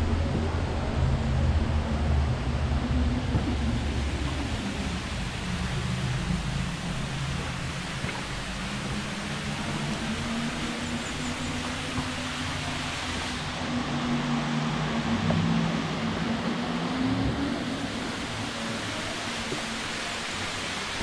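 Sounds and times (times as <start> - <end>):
low wavering hum: 0.0 - 21.0
waterfall rushing: 0.0 - 21.0.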